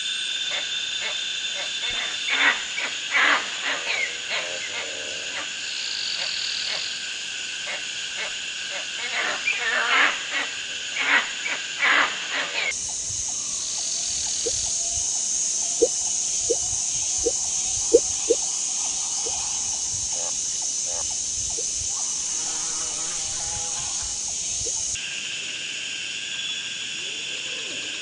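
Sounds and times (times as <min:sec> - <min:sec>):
insect drone: 0:00.0 - 0:28.0.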